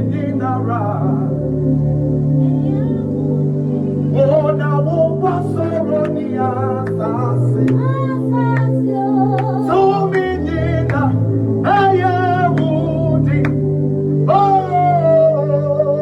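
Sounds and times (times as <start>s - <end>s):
sustained chords: 0.0s - 16.0s
voices singing slowly: 0.0s - 16.0s.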